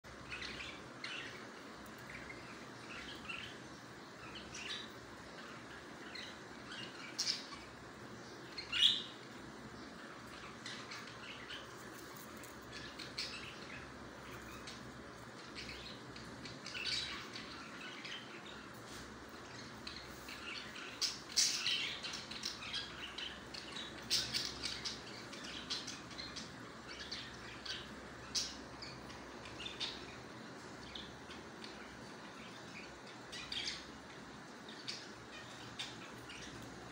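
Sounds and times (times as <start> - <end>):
parakeet chicks chirping: 0.1 - 36.9.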